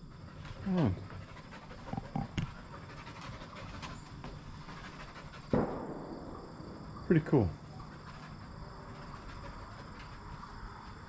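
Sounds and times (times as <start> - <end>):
puppy panting: 0.0 - 5.7, 7.5 - 11.0.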